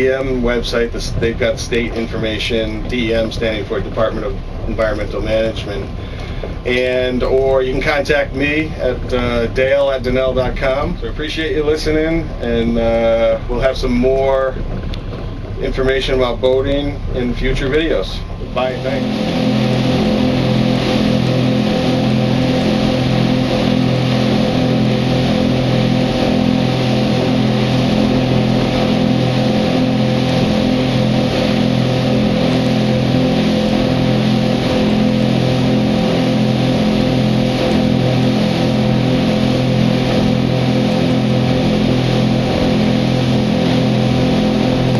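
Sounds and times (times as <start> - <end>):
outboard motors droning: 0.0 - 44.9
wake water rushing: 0.0 - 44.9
wind: 0.0 - 44.9.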